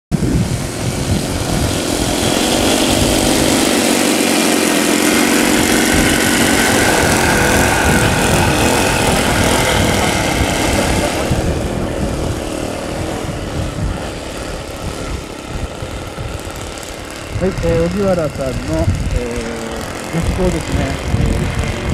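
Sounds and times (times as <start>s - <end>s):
model airplane engines droning: 0.1s - 21.9s.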